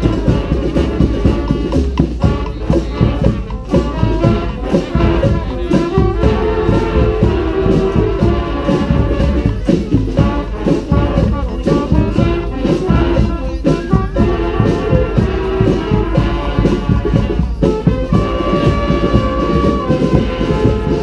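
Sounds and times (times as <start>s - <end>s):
brass band playing: 0.0s - 21.0s
horn holding long note: 0.0s - 21.0s.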